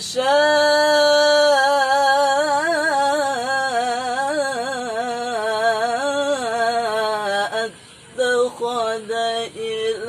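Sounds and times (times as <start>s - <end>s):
solo voice chanting melodically: 0.0s - 10.0s.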